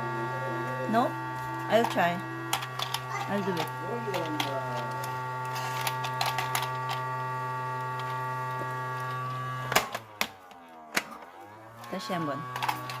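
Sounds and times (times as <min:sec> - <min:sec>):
toy vacuum motor humming: 0:00.0 - 0:13.0.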